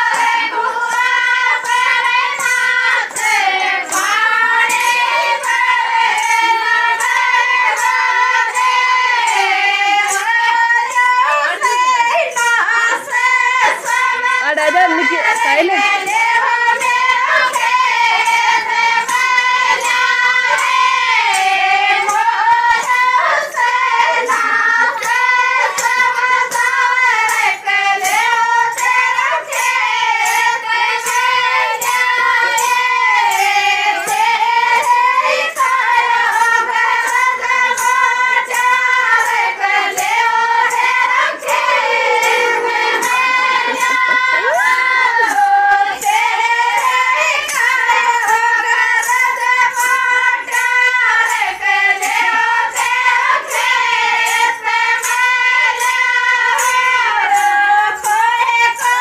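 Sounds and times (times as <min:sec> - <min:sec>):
driving percussion beat: 0:00.0 - 0:53.7.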